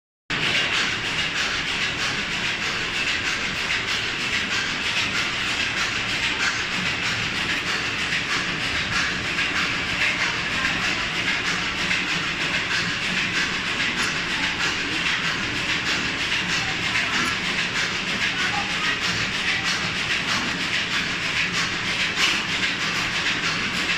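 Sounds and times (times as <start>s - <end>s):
machine mechanical clatter: 0.3s - 23.9s
hiss: 0.4s - 23.9s.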